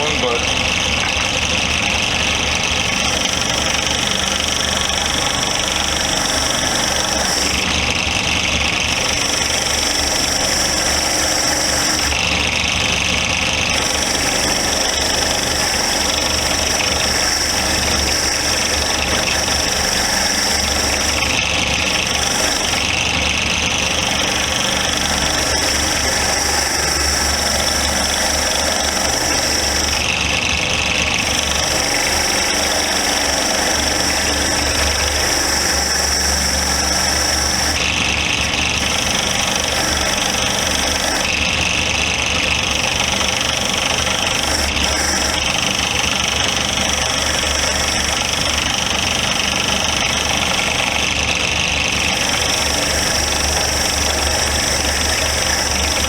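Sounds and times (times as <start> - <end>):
wire wheel whining: 0.0 - 56.0.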